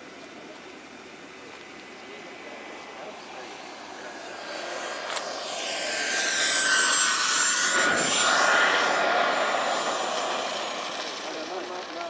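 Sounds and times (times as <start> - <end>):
model airplane motor whining: 1.6 - 12.0.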